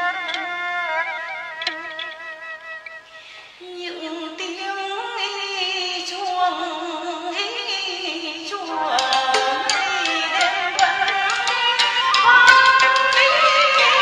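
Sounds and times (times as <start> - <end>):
folk opera music: 0.0 - 14.0.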